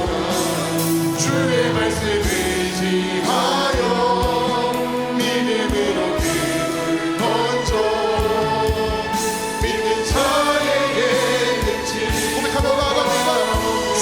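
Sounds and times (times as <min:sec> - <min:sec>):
keyboard chords: 0:00.0 - 0:14.0
praise band playing: 0:00.0 - 0:14.0
voices singing: 0:00.0 - 0:14.0.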